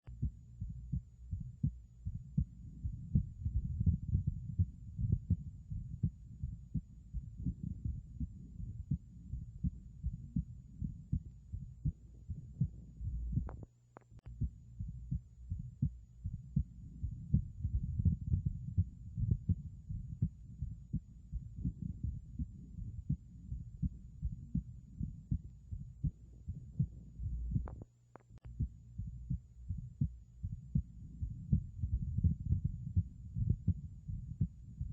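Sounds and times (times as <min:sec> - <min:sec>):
heartbeat through stethoscope: 0:00.1 - 0:34.9.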